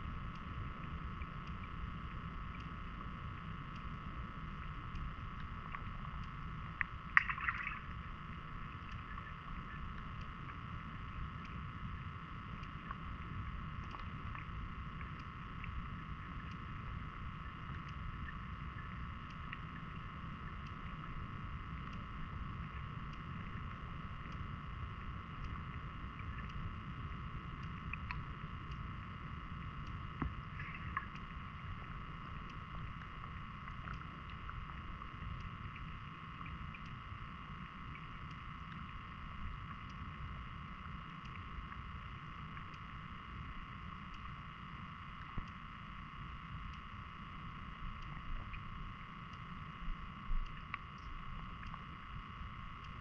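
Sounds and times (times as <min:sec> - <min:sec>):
high hum: 0:00.0 - 0:53.0
muffled underwater rumble: 0:00.0 - 0:53.0
faint clicks: 0:00.2 - 0:02.8, 0:04.6 - 0:21.2, 0:21.8 - 0:53.0.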